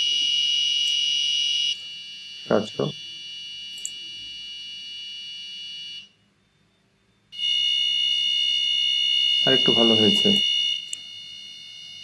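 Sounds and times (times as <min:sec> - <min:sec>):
buzzer tone: 0:00.0 - 0:06.2, 0:07.4 - 0:12.0.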